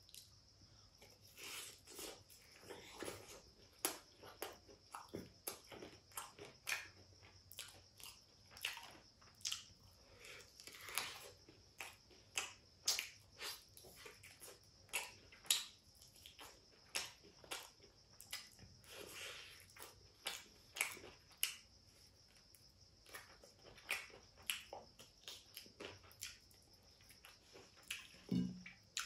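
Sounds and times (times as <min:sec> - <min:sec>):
person chewing fried chicken: 0:00.0 - 0:29.0.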